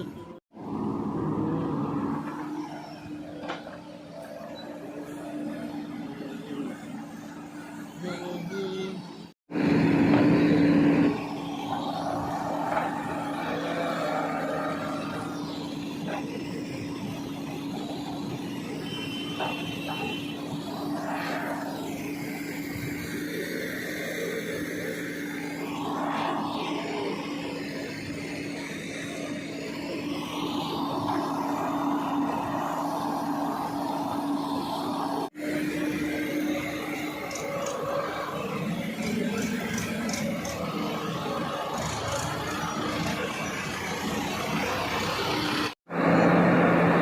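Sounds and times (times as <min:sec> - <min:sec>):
diesel engine running steadily: 0:00.0 - 0:47.0.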